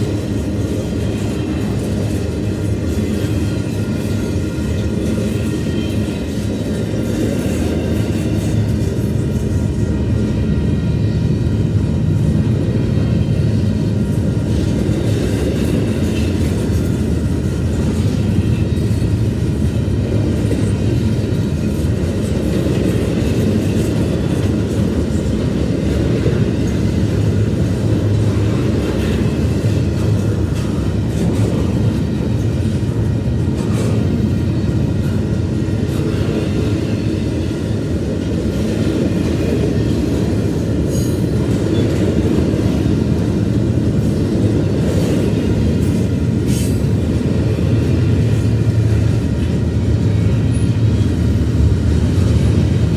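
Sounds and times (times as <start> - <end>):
freight train wheels rumbling on rails: 0.0 - 52.9.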